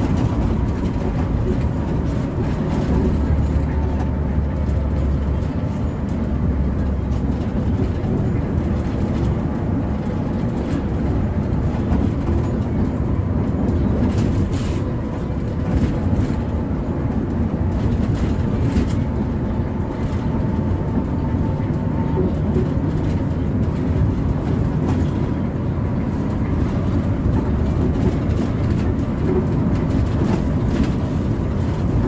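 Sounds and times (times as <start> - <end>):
coach engine and road rumble: 0.0 - 32.0.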